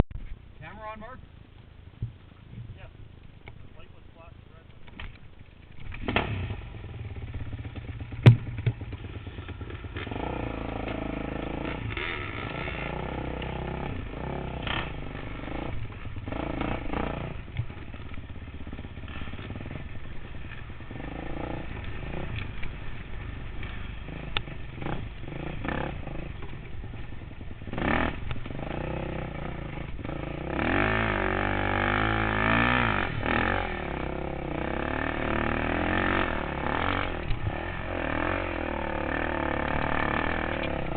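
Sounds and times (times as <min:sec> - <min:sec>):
dirt bike engine revving: 0:05.7 - 0:40.9.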